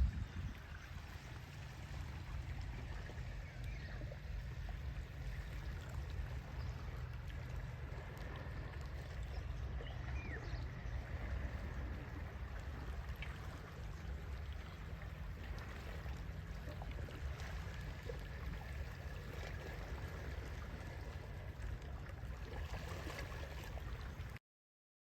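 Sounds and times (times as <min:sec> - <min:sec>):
low rumble: 0:00.0 - 0:22.2
water lapping: 0:00.0 - 0:24.4.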